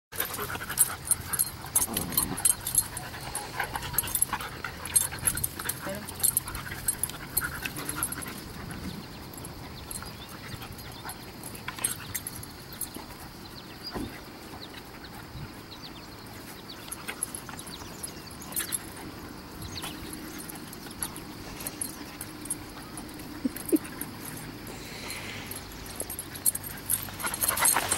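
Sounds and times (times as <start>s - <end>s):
dog panting: 0.2s - 27.9s.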